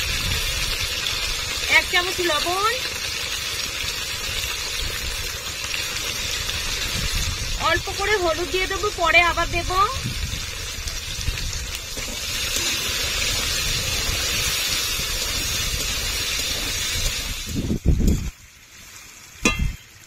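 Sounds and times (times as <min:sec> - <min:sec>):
food frying in hot oil: 0:00.0 - 0:20.0.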